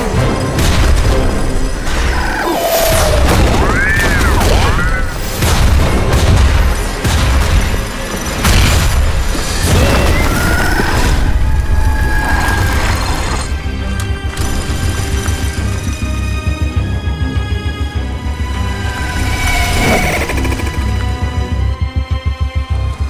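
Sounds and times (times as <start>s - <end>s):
dramatic music: 0.0s - 23.0s.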